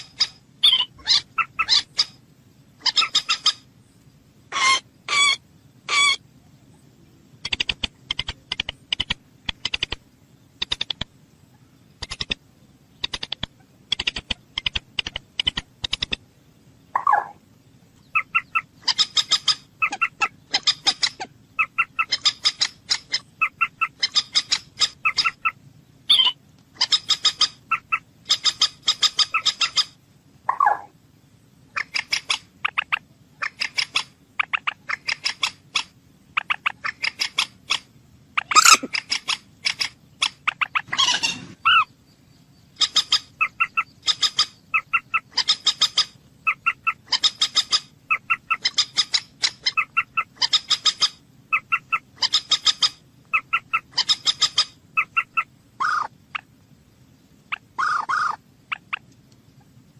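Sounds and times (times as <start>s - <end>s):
bird chattering calls: 0.0s - 2.2s, 2.8s - 3.7s, 4.5s - 6.2s, 7.4s - 16.3s, 16.9s - 17.4s, 18.0s - 30.9s, 31.6s - 42.0s, 42.7s - 56.5s, 57.5s - 59.1s
low drawn-out bird calls: 0.0s - 56.6s, 57.5s - 59.9s.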